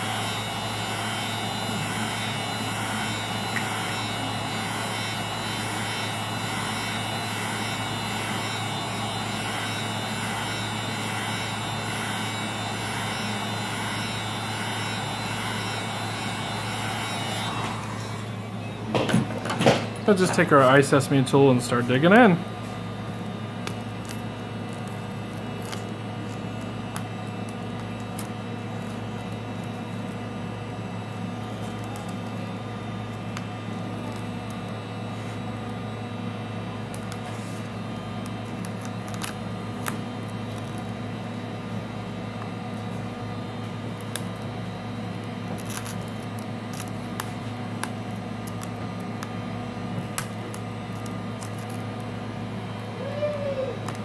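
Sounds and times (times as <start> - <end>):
heat gun humming: 0.0 - 54.0.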